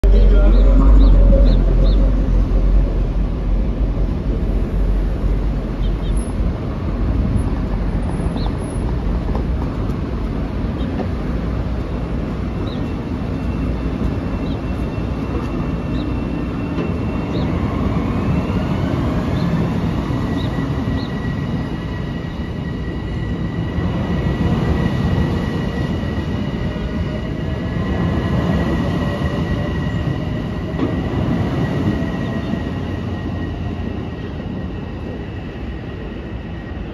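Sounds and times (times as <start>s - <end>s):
train wheels rumbling: 0.0s - 36.9s.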